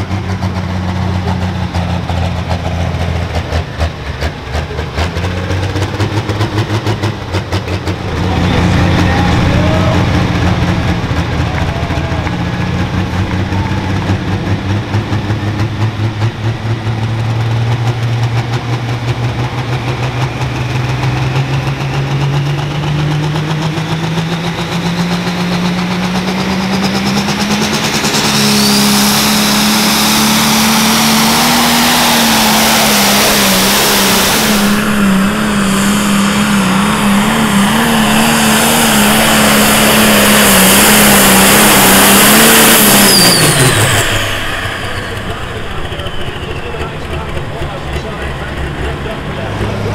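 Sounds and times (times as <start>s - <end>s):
diesel engine at full throttle: 0.0s - 49.9s.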